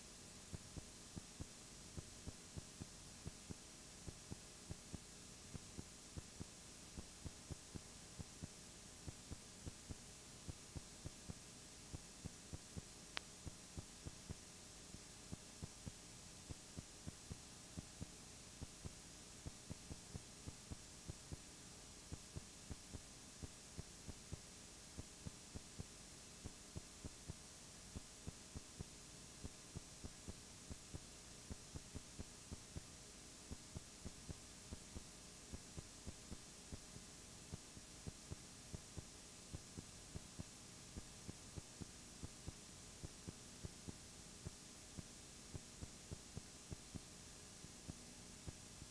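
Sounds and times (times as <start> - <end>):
hum: 0.0 - 48.9
steady hiss: 0.0 - 48.9.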